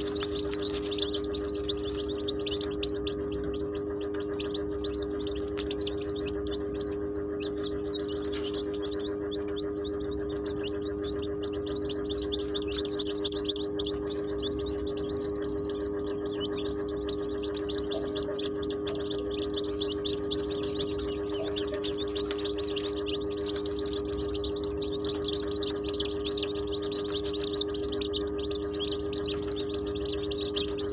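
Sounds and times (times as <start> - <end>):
chicks peeping: 0.0 - 30.9
steady low hum: 0.0 - 30.9.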